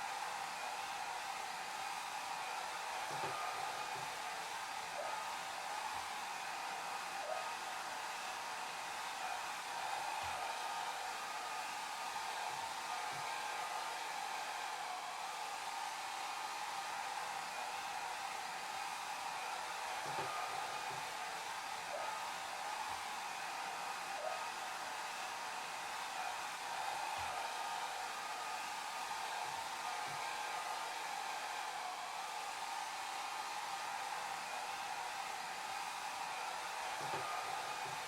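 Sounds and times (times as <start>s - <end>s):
hair dryer blowing: 0.0s - 38.0s.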